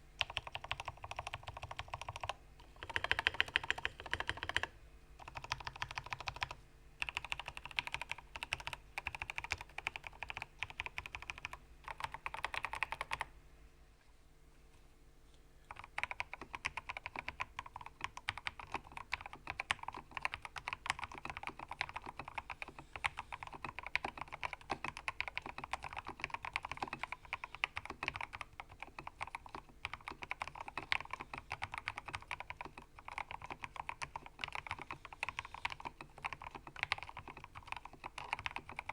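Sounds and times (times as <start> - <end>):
mechanical keyboard typing: 0.2 - 13.3, 15.7 - 38.9.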